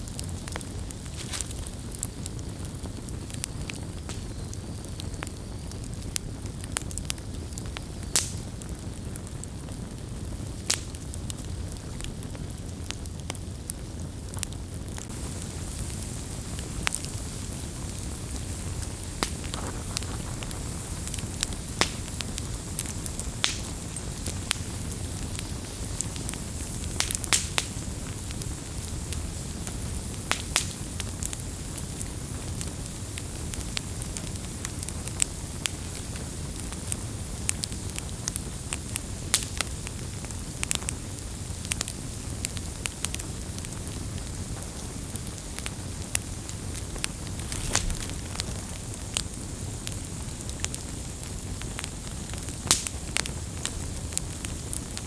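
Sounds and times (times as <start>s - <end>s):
burning wood crackling and popping: 0.0s - 55.0s
campfire flames roaring: 0.0s - 55.0s.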